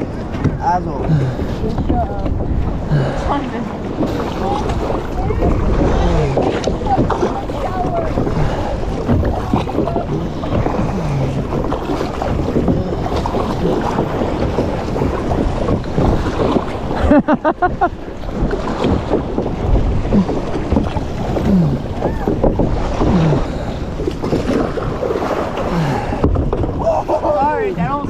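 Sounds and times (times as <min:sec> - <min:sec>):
water sloshing around kayak: 0:00.0 - 0:28.0
wind buffeting microphone: 0:00.0 - 0:28.0.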